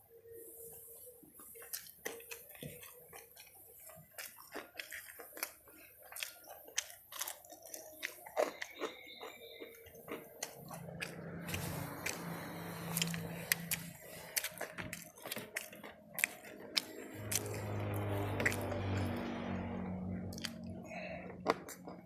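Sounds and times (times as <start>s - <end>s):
chewing crispy food: 0.8s - 22.0s.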